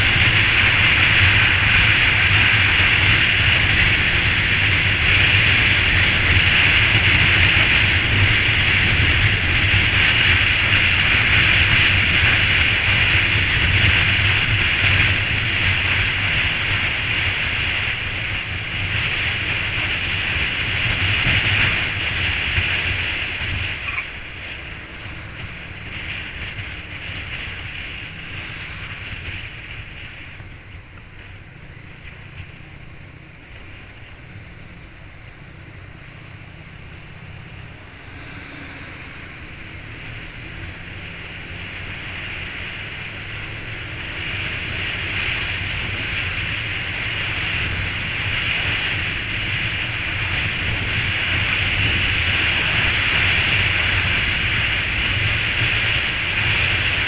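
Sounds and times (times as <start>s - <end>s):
vehicle noise on wet road: 0.0s - 57.0s.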